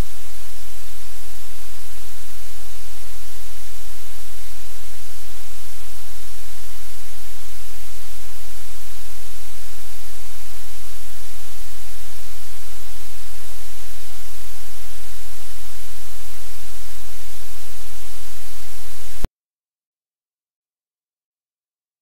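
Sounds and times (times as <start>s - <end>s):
static hiss: 0.0s - 19.3s.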